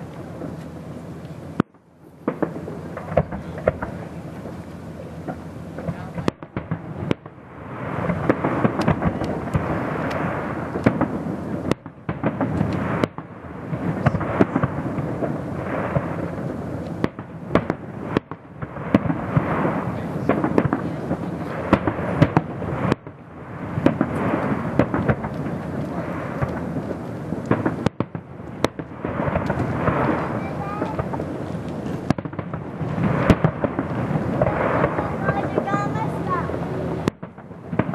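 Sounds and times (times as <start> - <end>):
fireworks bangs: 0.0 - 37.9
fireworks rumble: 0.0 - 37.9.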